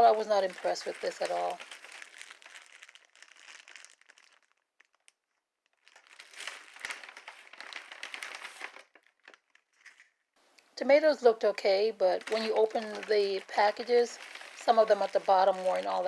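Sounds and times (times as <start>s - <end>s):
plastic packaging crinkling: 0.0s - 10.3s, 11.4s - 16.0s.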